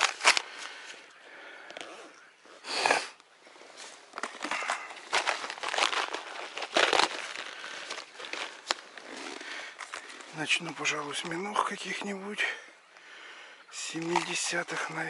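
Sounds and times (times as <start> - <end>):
fishing tackle rustling and clicking: 0.0 - 2.2, 3.2 - 12.2, 13.8 - 15.0.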